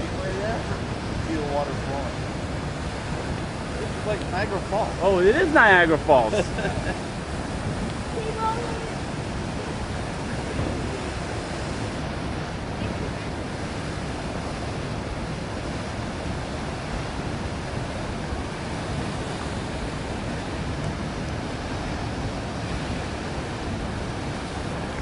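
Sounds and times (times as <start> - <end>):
water rushing from burst pipe: 0.0 - 25.0.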